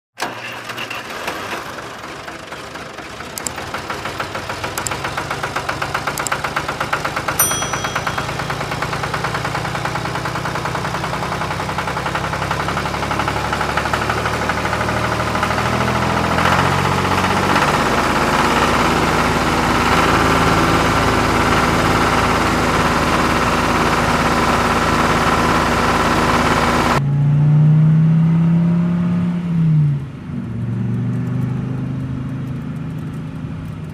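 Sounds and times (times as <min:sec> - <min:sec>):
diesel tractor engine running: 0:00.2 - 0:27.0, 0:30.0 - 0:33.9.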